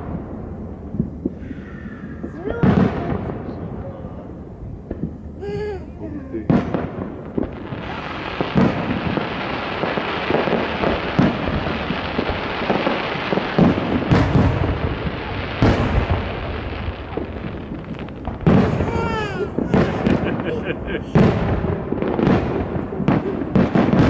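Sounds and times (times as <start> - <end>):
fireworks booms: 0.0 - 24.0
fireworks crackling: 0.0 - 24.0.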